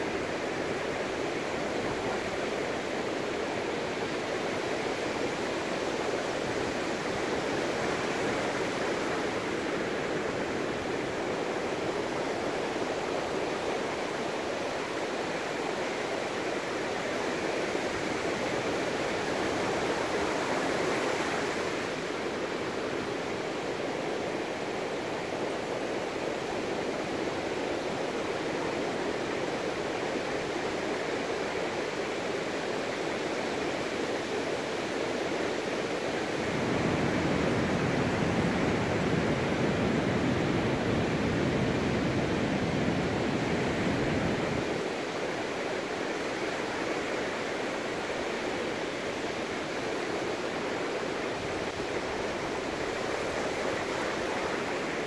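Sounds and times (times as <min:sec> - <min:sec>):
surf washing onto beach: 0:00.0 - 0:55.0.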